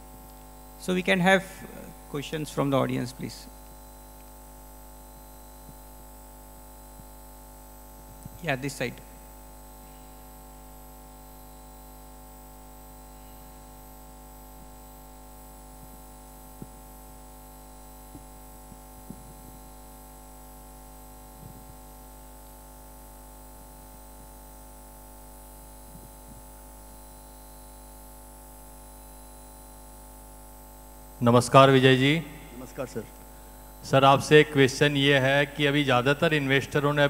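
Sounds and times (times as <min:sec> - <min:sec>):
mains hum: 0:00.0 - 0:37.0.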